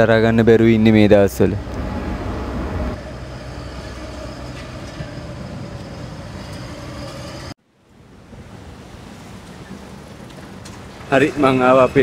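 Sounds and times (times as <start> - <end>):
traffic and machinery hum: 0.0 - 12.0.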